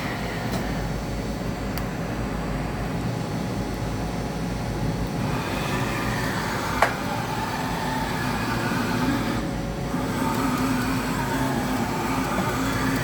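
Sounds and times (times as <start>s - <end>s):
machine motor humming and whining: 0.0s - 13.0s.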